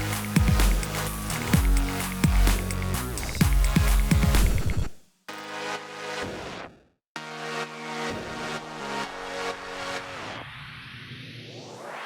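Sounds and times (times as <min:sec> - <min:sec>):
electronic music with synth tones: 0:00.0 - 0:06.6, 0:07.2 - 0:12.0.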